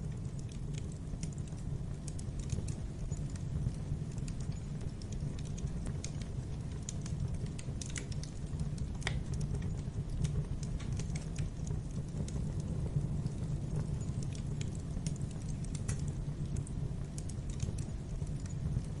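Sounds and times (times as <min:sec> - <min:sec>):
fire low rumble: 0:00.0 - 0:19.0
wood fire crackling and popping: 0:00.0 - 0:19.0.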